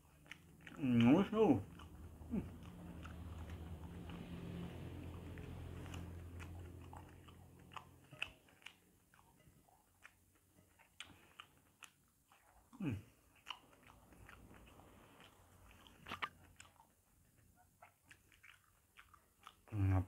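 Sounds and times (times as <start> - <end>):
person chewing fruit: 0.0 - 20.0.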